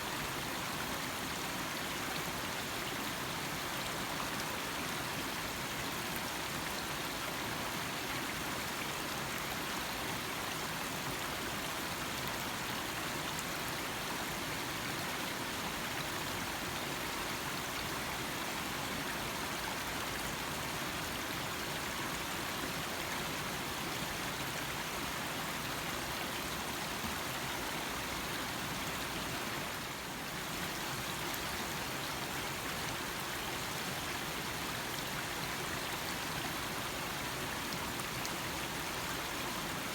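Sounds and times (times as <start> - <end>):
small stream trickling: 0.0 - 39.9.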